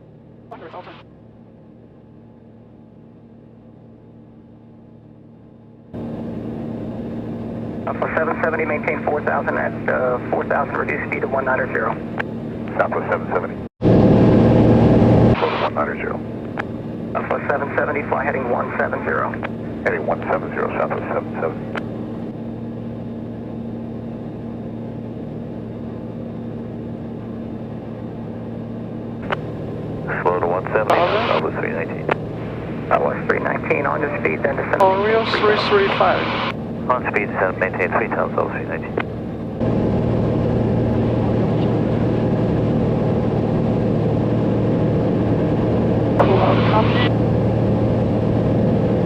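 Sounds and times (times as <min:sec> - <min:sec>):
airplane engine droning: 0:00.0 - 0:49.0
low hum: 0:00.0 - 0:49.0.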